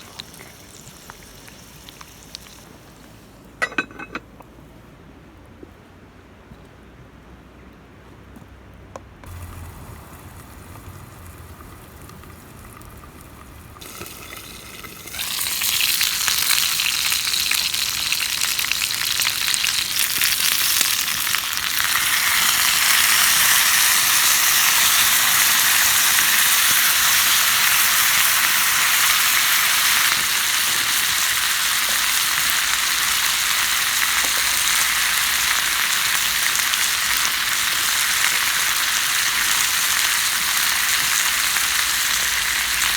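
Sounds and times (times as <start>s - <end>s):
food sizzling in a skillet: 0.0s - 2.6s, 9.3s - 42.9s.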